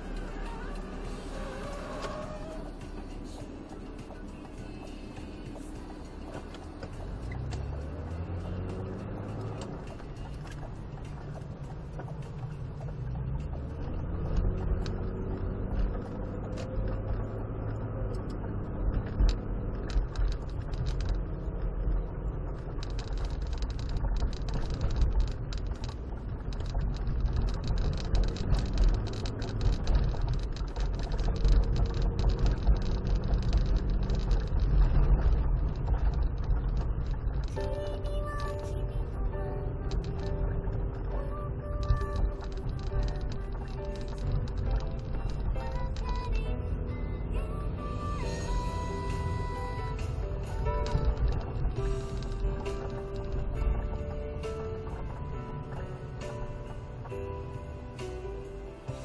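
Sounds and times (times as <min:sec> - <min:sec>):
car engine and road noise: 0:00.0 - 0:59.0
small rattles and knocks: 0:02.0 - 0:46.5, 0:48.2 - 0:59.0.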